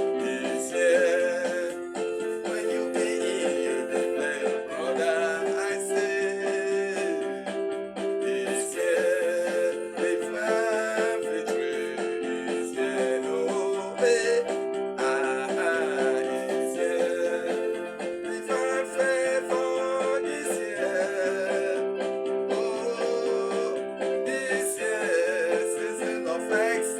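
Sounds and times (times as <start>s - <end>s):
song with sung vocals: 0.0s - 26.9s.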